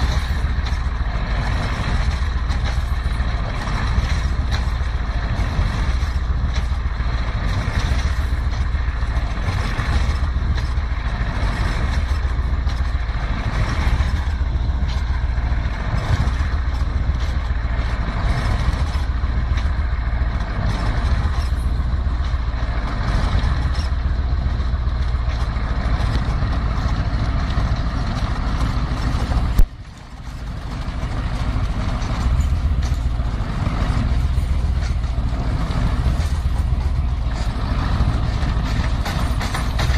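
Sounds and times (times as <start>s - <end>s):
diesel truck engine under load: 0.0s - 39.9s
wheels spinning in snow: 0.0s - 39.9s.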